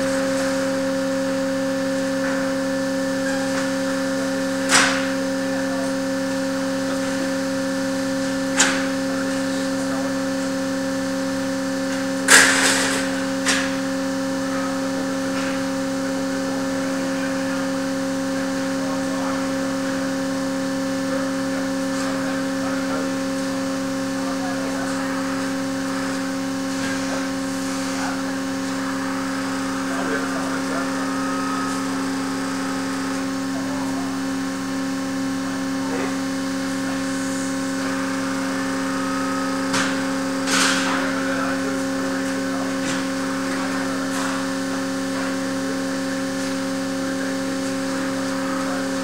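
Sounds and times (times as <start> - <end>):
machine hum with two tones: 0.0 - 49.0.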